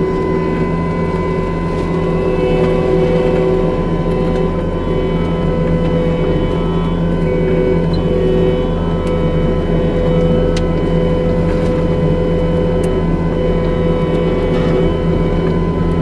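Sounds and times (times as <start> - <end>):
forestry mulcher machine drone: 0.0 - 16.0.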